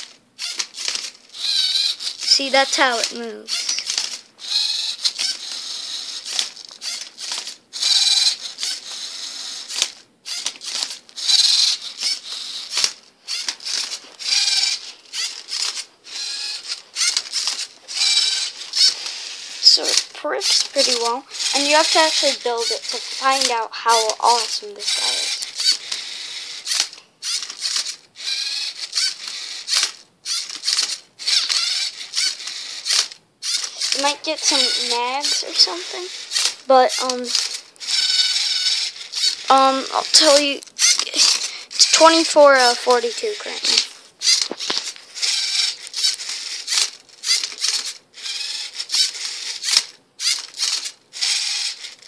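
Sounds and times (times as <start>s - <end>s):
plastic parts clicking: 0.0s - 52.0s
plastic rattle: 0.0s - 52.0s
robot motors whirring: 0.0s - 52.0s.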